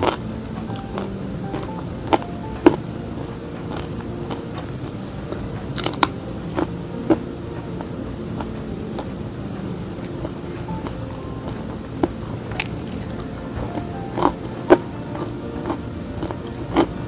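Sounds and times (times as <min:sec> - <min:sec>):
crunchy fritters being chewed: 0:00.0 - 0:17.0.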